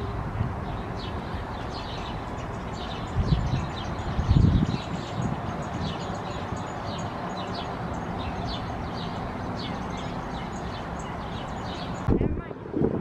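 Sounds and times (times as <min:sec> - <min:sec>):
nestlings chirping: 0:00.7 - 0:12.2.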